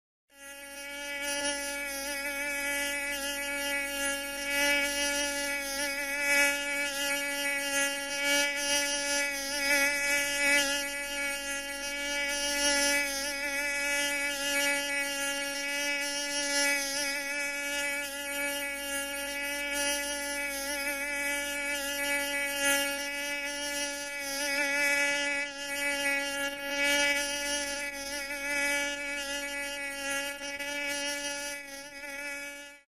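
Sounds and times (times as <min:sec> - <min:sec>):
mosquito buzzing: 0:00.3 - 0:32.9.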